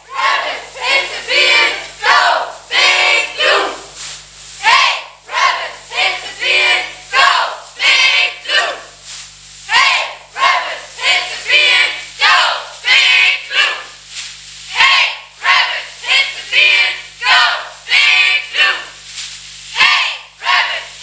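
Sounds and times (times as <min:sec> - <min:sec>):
group shouting a chant in unison: 0:00.1 - 0:03.9, 0:04.6 - 0:08.9, 0:09.7 - 0:13.9, 0:14.7 - 0:18.9, 0:19.8 - 0:21.0.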